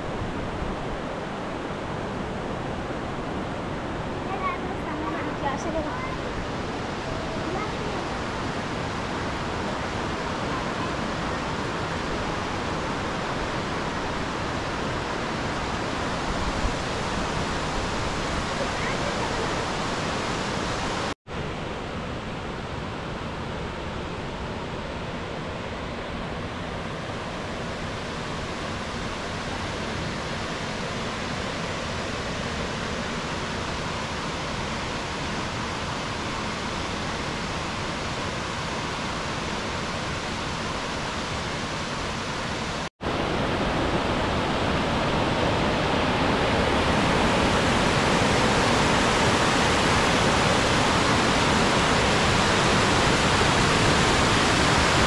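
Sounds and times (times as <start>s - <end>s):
water rushing over a weir: 0.0s - 55.0s.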